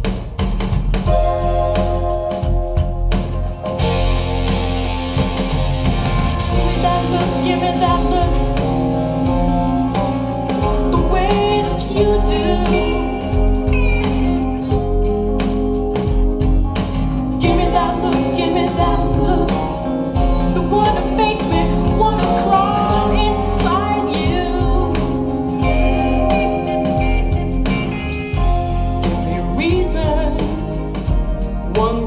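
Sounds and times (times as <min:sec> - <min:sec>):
rock song through speakers: 0:00.0 - 0:32.0.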